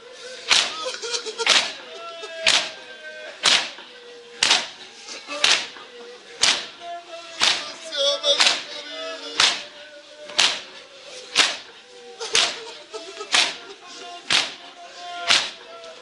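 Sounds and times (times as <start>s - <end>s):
voices chanting: 0.0s - 16.0s
crowd slapping chests: 0.4s - 16.0s.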